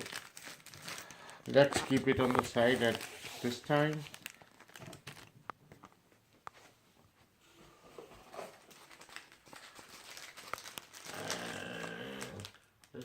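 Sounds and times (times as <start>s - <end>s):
soft rustling of packaging: 0.0s - 13.0s.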